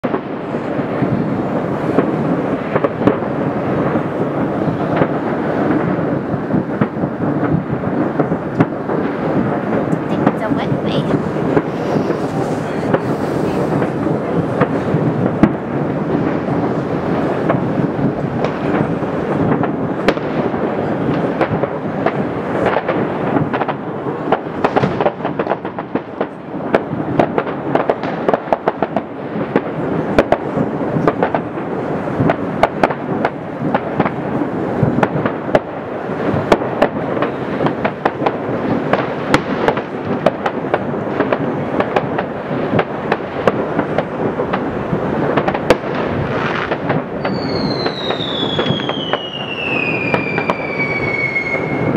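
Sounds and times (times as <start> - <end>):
close firework pops: 0.0 - 51.9
distant fireworks rumble: 0.0 - 51.9.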